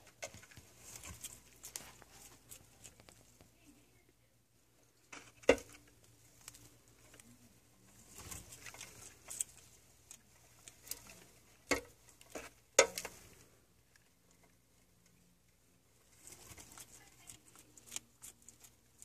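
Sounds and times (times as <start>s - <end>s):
soft rustling: 0.0s - 19.0s.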